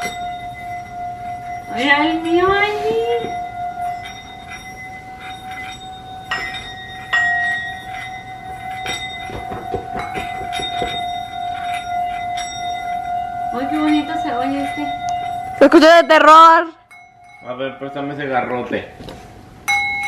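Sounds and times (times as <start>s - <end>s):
singing bowl steady tone: 0.0s - 20.0s
singing bowls struck ringing: 0.0s - 20.0s.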